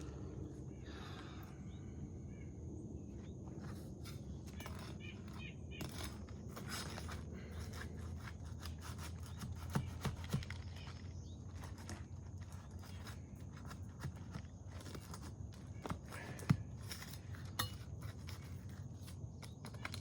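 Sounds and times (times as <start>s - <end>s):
roof shingles rubbing and scuffing: 3.2s - 20.0s.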